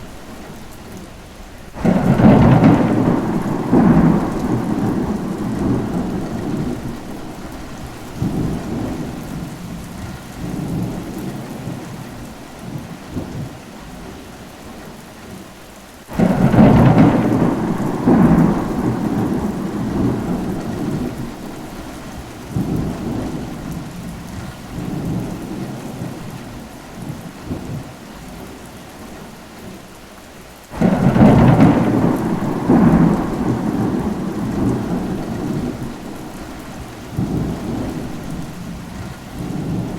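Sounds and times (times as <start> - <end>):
rain falling: 0.0 - 39.9
thunder rumbling: 1.7 - 13.5, 16.1 - 28.5, 30.7 - 39.9.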